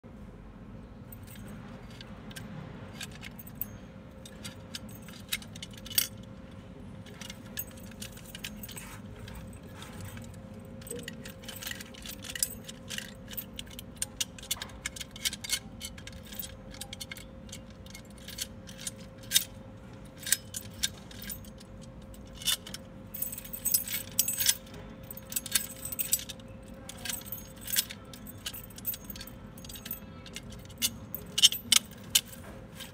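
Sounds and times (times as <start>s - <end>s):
keys jingling: 1.1s - 32.9s.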